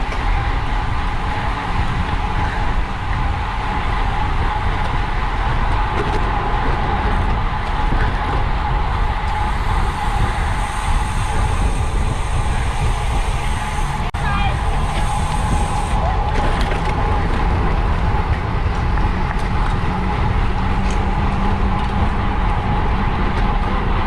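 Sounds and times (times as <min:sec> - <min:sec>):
low rumble and hum: 0:00.0 - 0:24.0
wind rush on microphone: 0:00.0 - 0:24.0.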